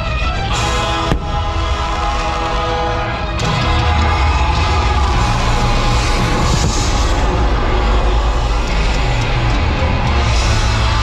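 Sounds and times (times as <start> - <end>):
loud music with strong bass: 0.0 - 11.0.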